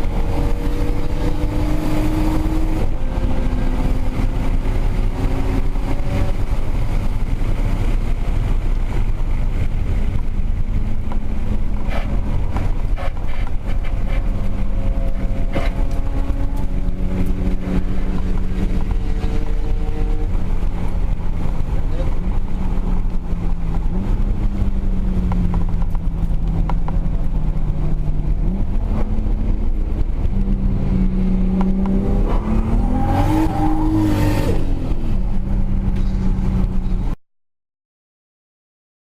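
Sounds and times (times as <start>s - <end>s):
car engine revving: 0.0s - 37.2s
road and wind rumble: 0.0s - 37.2s.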